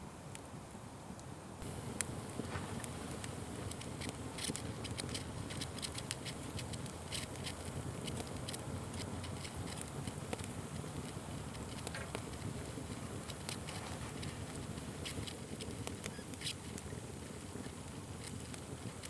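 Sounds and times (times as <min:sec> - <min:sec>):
wood fire crackling: 0:01.6 - 0:19.0.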